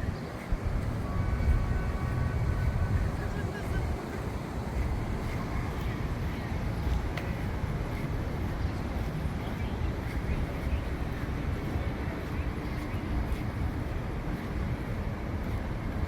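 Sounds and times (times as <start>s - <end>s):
continuous low rumble: 0.0s - 16.0s
faint voices: 0.0s - 16.0s.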